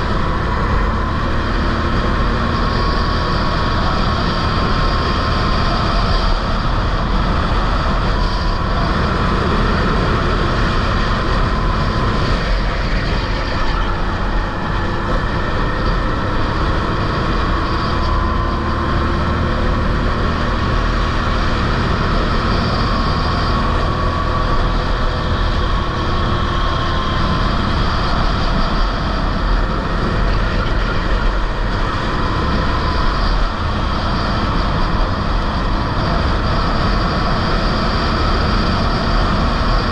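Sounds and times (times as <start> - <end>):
go-kart engine racing: 0.0 - 39.9
wind rumble on microphone: 0.0 - 39.9.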